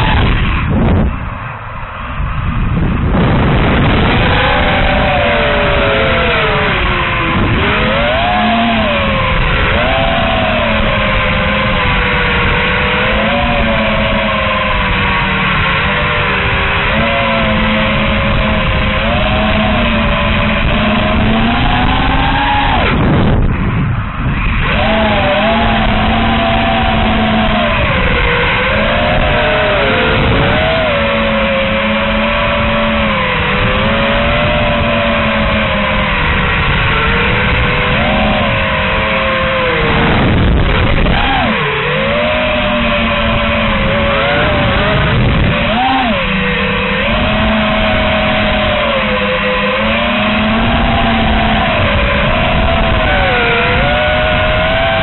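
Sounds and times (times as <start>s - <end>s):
quadcopter motors whining: 0.0s - 55.0s
wind rush: 0.0s - 55.0s.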